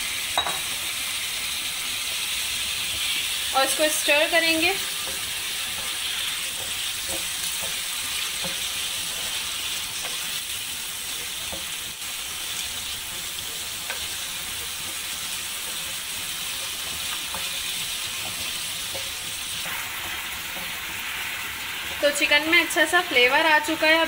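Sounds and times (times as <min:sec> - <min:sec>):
chicken sizzling in a frying pan: 0:00.0 - 0:24.0.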